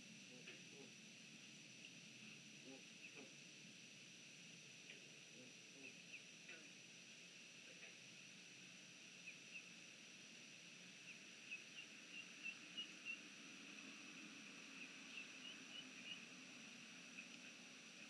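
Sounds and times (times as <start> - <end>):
faint high hum: 0.0 - 18.0.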